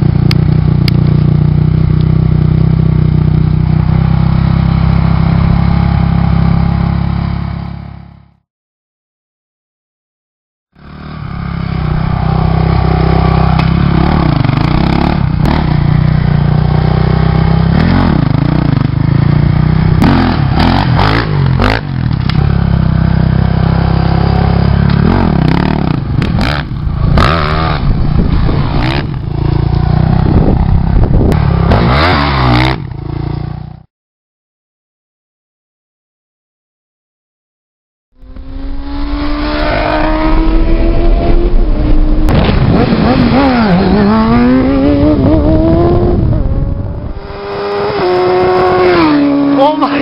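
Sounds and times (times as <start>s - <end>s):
motorcycle engine running hard: 0.0s - 8.4s, 10.8s - 33.9s, 38.2s - 50.0s.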